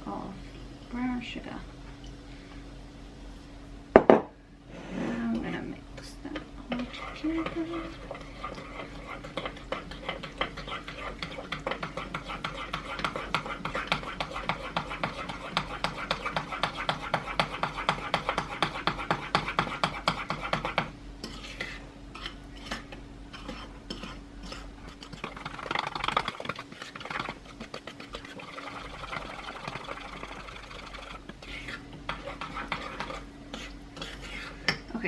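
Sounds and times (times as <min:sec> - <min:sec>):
utensil scraping mixing bowl: 0:06.7 - 0:34.8.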